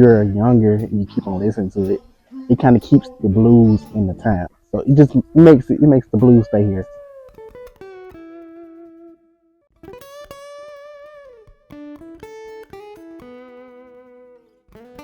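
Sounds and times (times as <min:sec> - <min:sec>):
blues guitar playing: 0:00.0 - 0:15.0.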